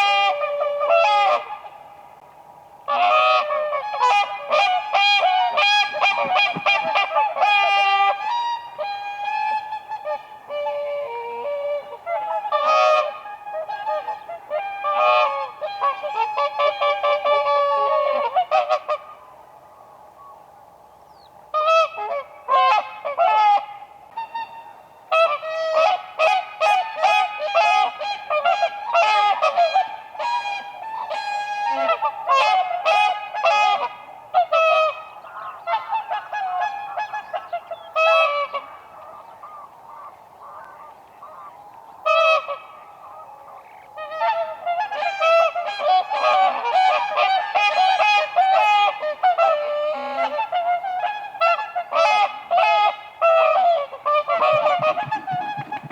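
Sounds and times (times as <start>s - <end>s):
swans bugling honks: 0.0s - 2.2s, 2.8s - 55.9s.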